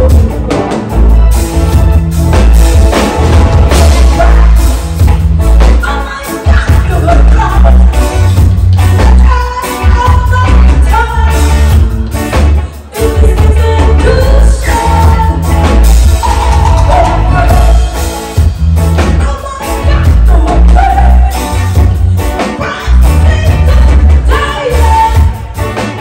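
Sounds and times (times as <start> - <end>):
woman singing lead: 0.0 - 1.1, 3.6 - 26.0
live rock band playing: 0.0 - 26.0.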